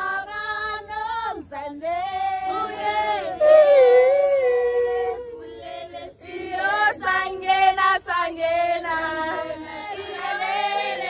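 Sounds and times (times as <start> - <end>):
women and girls singing unaccompanied: 0.0 - 11.0.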